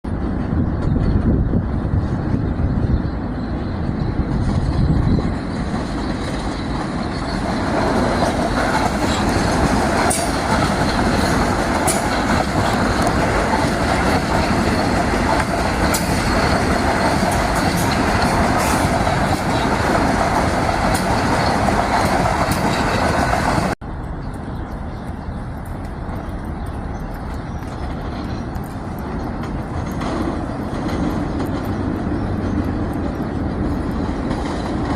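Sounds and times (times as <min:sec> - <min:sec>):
train wheels rumbling on rail: 0:00.1 - 0:34.9.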